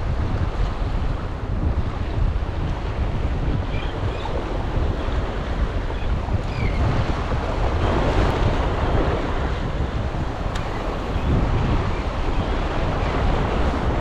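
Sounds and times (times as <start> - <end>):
ocean surf against rocks: 0.0 - 14.0
wind buffeting microphone: 0.0 - 14.0.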